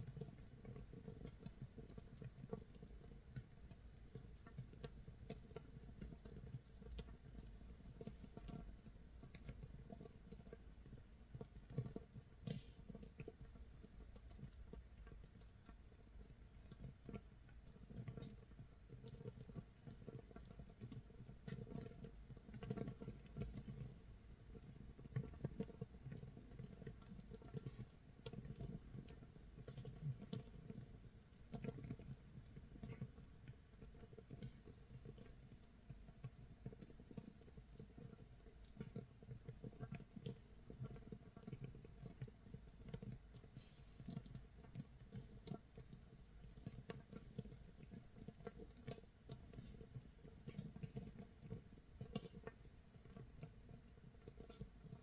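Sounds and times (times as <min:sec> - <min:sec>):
tiny bubbles popping crackle: 0:00.0 - 0:55.0.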